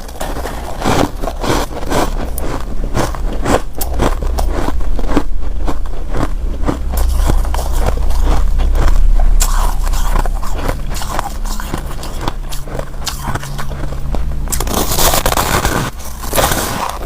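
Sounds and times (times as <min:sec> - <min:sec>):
ice being chewed: 0:00.0 - 0:17.0
low rumble: 0:00.0 - 0:17.0.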